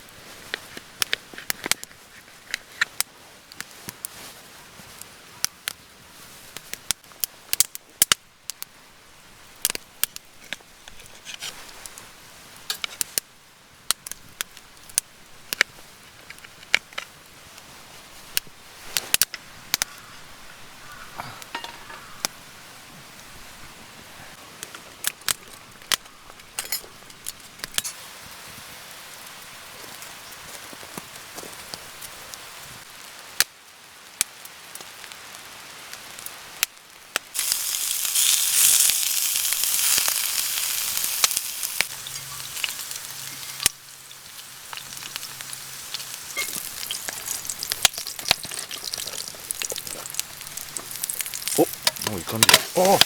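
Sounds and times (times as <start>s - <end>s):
wood fire crackling and popping: 0.0s - 20.0s, 24.2s - 28.0s, 29.3s - 53.0s.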